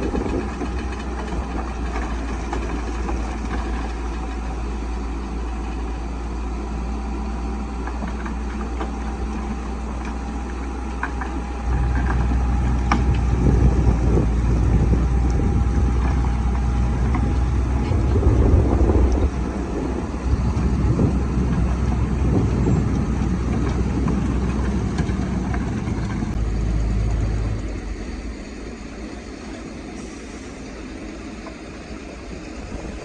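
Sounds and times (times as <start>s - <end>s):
bulldozer diesel engine: 0.0s - 33.0s
bulldozer pushing rock: 0.0s - 33.0s.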